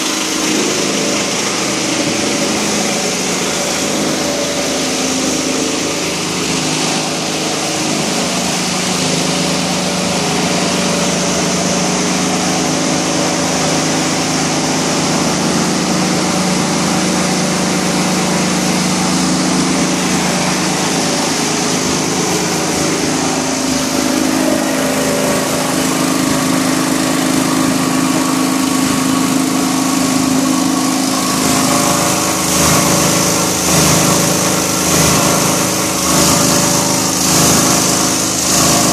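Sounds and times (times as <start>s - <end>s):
plastic crusher motor humming: 0.0s - 38.9s.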